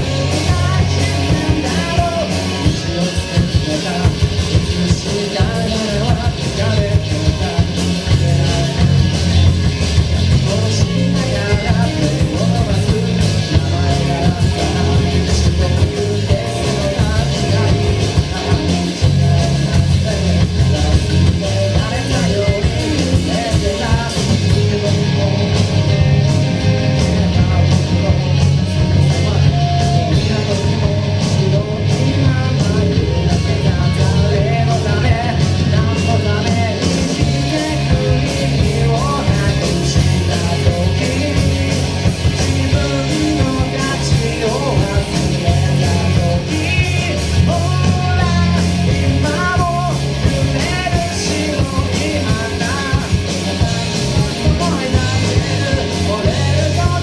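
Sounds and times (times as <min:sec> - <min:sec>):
lead singer singing: 0:00.0 - 0:57.0
live rock band playing: 0:00.0 - 0:57.0.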